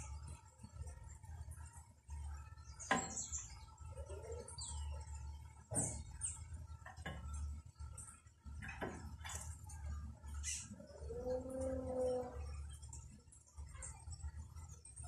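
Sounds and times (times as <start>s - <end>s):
birds chipping and chirping: 0.0s - 15.0s
low steady hum: 0.0s - 15.0s.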